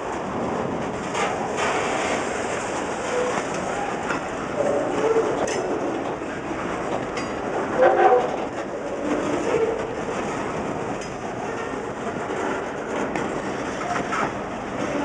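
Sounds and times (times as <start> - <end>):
wheels clicking over rail joints: 2.6 - 15.0.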